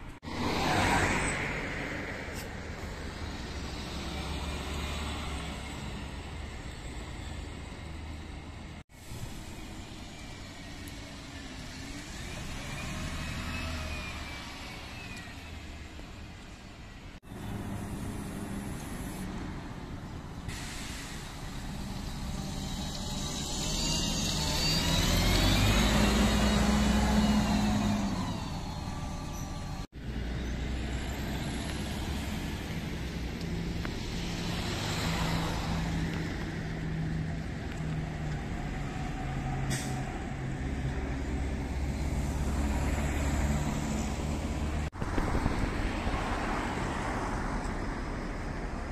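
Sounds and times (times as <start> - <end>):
bus engines running: 0.0 - 48.9
bus passing with whine: 0.0 - 48.9.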